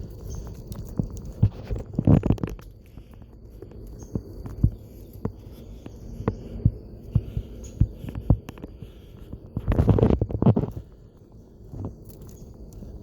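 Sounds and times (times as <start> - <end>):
footsteps on woodland trail: 0.0 - 13.0.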